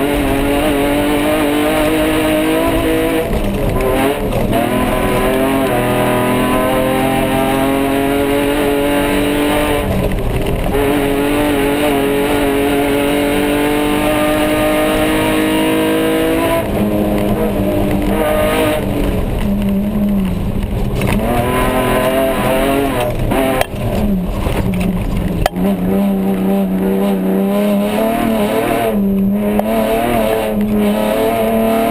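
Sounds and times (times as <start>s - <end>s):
race car engine revving: 0.0s - 31.9s
rough road noise: 0.0s - 31.9s.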